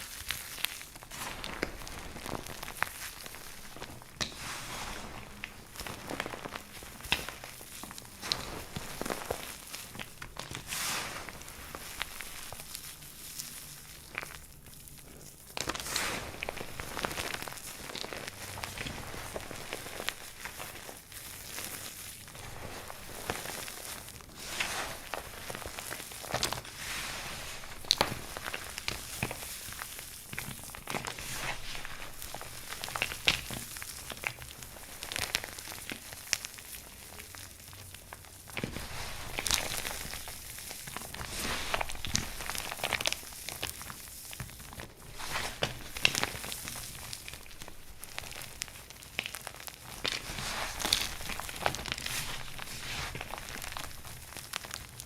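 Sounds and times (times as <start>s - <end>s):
dry soap crunching: 0.0s - 55.0s.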